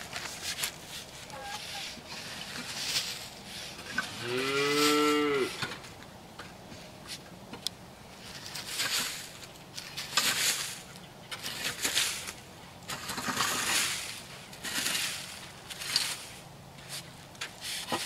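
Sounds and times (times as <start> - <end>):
rake scraping over dirt: 0.0 - 6.0, 8.1 - 18.0.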